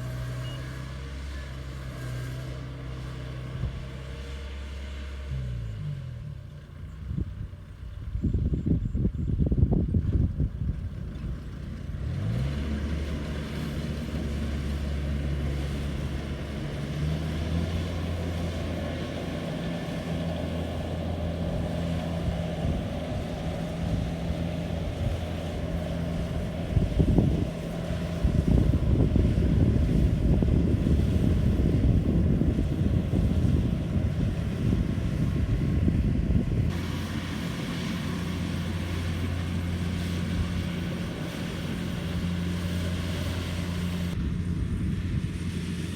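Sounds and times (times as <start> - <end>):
harvester engine running: 0.0 - 45.9.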